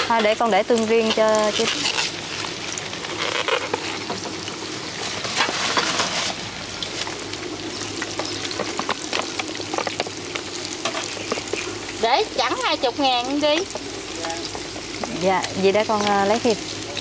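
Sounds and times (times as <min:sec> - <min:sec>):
food sizzling in hot oil: 0:00.0 - 0:17.0
oil crackling pops: 0:00.0 - 0:17.0.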